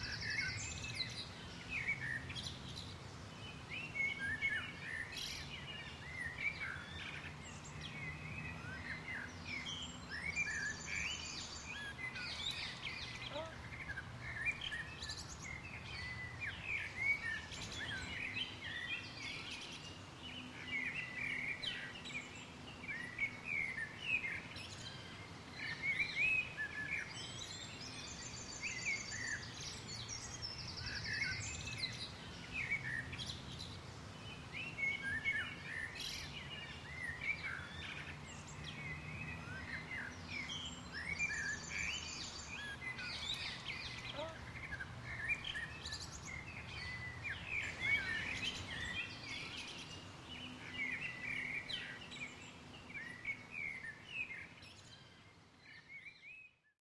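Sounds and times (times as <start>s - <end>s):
birds chirping and twittering: 0.0s - 56.8s.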